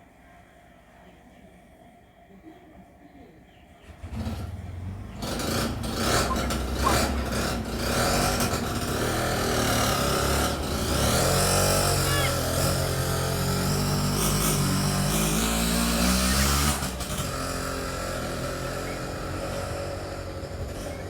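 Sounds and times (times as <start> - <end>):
motor engine running: 3.8 - 21.0.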